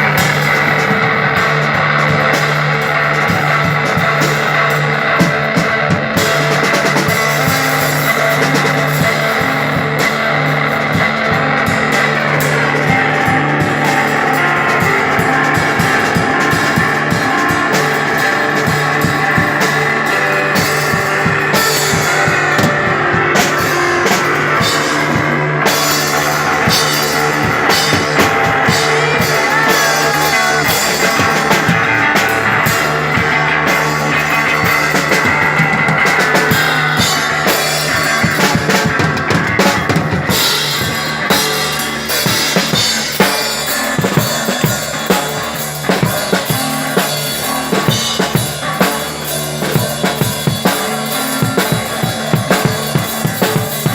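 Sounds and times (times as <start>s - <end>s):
drum kit with bass and snare: 0.0s - 53.9s
sustained electric guitar: 0.0s - 53.9s.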